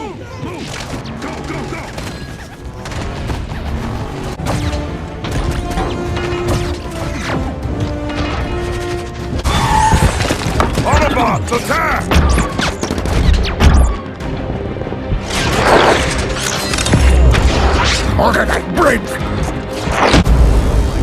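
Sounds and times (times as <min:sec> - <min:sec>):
film score: 0:00.0 - 0:21.0.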